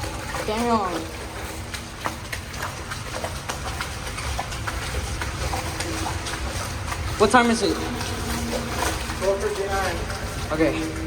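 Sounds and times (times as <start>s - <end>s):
footsteps splashing in shallow water: 0.0s - 11.0s.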